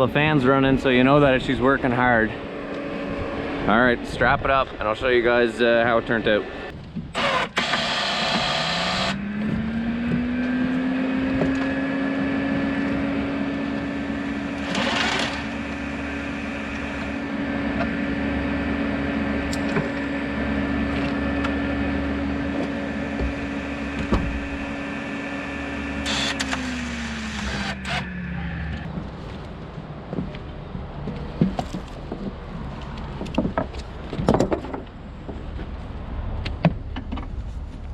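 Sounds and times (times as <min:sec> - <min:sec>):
motor vehicle whining: 0:00.0 - 0:37.9.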